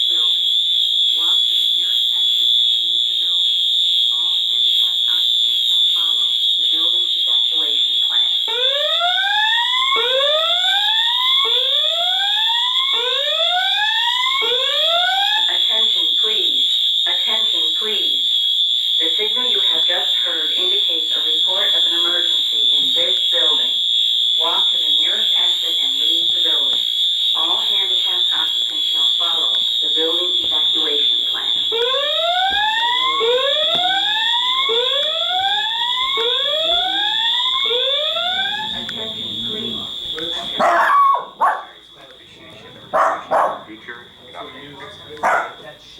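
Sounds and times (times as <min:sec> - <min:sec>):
steady high-pitched tone: 0:00.0 - 0:43.0
fire alarm horns whooping: 0:00.0 - 0:45.9.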